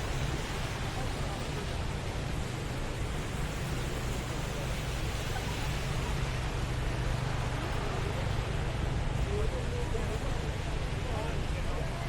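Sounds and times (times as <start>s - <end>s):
city street ambience: 0.0s - 12.0s.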